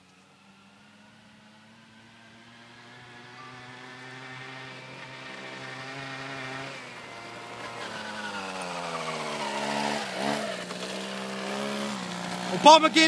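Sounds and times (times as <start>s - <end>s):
motor scooter engine running: 0.0s - 13.0s.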